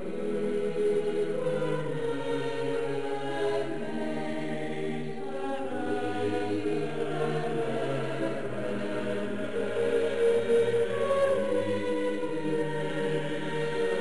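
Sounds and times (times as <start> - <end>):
choir-like voices holding chords: 0.0 - 14.0.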